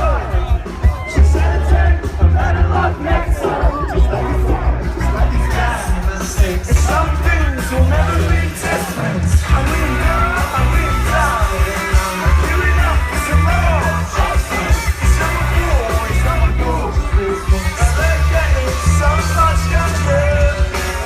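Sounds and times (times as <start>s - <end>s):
lead vocal singing: 0.0s - 21.0s
live rock band: 0.0s - 21.0s.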